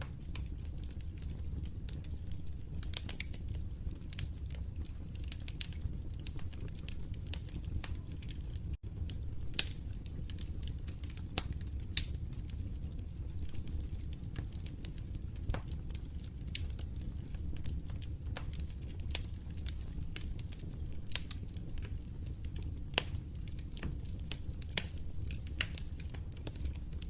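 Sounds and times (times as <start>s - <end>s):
fire crackling and popping: 0.0s - 27.0s
fire low rumble: 0.0s - 27.0s.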